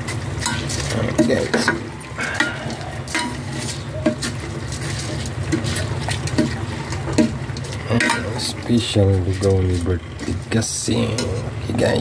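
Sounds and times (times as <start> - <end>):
rice rasping in pot: 0.0 - 12.0.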